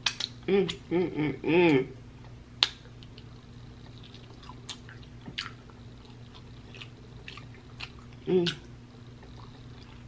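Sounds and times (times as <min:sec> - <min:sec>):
chewing with wet mouth clicks: 0:00.0 - 0:00.8, 0:02.2 - 0:10.0.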